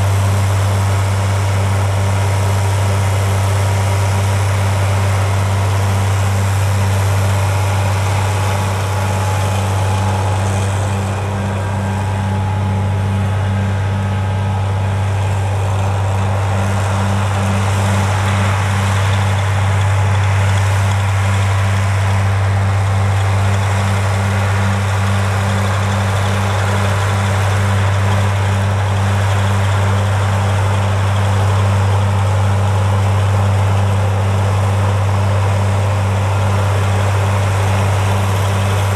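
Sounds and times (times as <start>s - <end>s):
diesel tractor engine droning: 0.0s - 38.9s.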